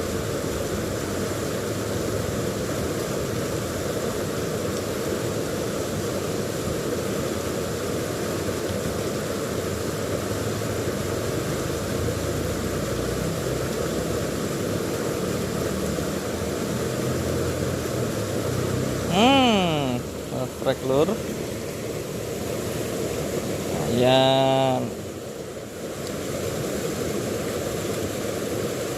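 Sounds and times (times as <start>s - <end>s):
river water flowing over rocks: 0.0s - 28.9s.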